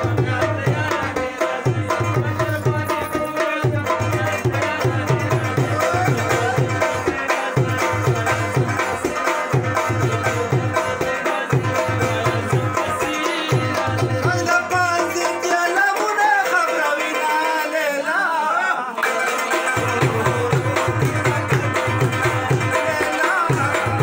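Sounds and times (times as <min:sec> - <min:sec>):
tabla rhythm: 0:00.0 - 0:24.0.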